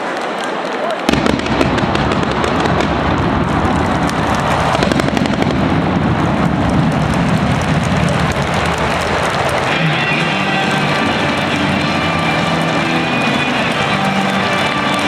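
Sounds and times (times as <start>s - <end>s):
fireworks fountains hissing and crackling: 1.0s - 15.0s
steady rushing noise: 1.7s - 15.0s.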